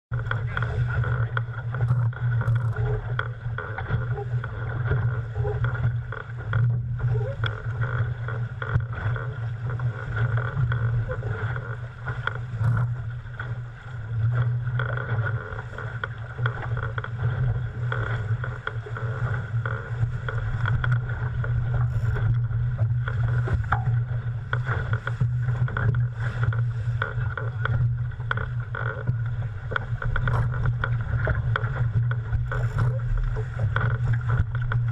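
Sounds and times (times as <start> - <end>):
water rushing around a boat: 0.1 - 34.9.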